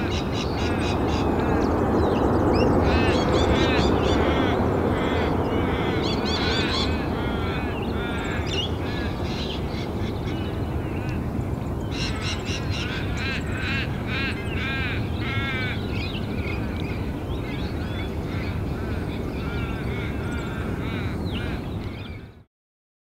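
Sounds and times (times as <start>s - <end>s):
steady low rumble: 0.0s - 21.9s
harsh bird calls: 0.0s - 22.5s.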